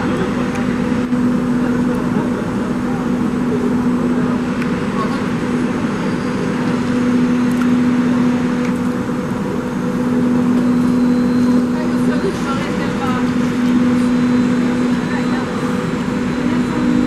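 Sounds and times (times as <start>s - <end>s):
rumbling background noise: 0.0s - 17.0s.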